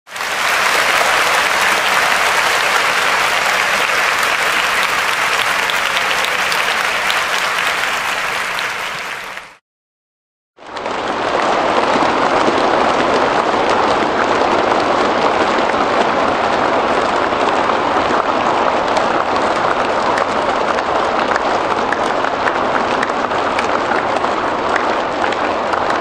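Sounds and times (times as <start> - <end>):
crowd applause: 0.1 - 9.6, 10.6 - 26.0
duller applause: 0.1 - 9.6, 10.8 - 26.0.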